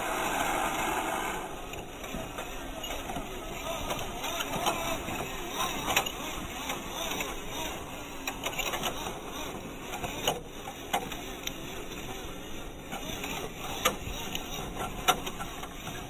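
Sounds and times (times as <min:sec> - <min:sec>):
toy truck motor whirring: 0:00.0 - 0:16.0.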